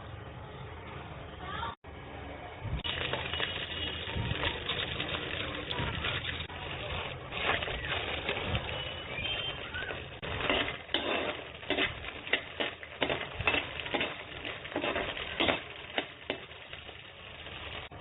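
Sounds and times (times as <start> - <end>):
seeds stirred in a vessel: 2.8 - 18.0.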